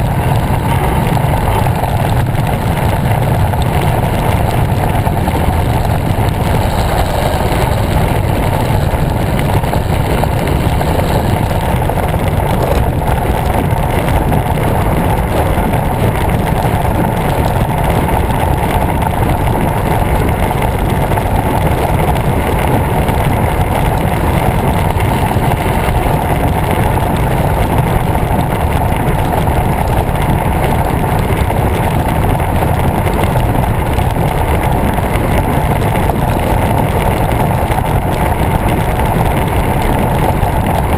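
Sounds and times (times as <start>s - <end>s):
bike tyres on asphalt: 0.0s - 40.9s
wind rush on microphone: 0.0s - 40.9s.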